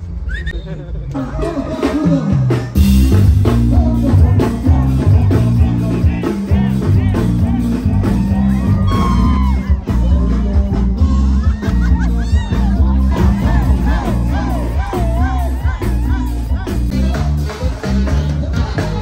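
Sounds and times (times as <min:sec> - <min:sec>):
band music with male vocal: 0:01.1 - 0:19.0.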